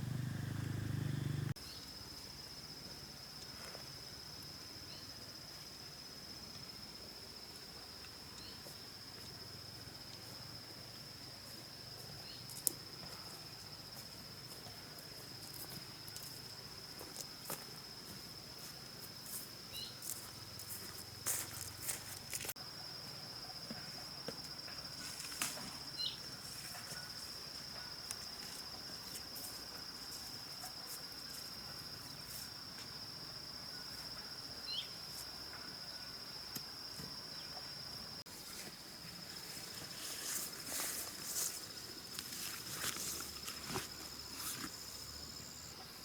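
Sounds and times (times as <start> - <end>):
insect high-pitched trill: 3.9 - 46.0.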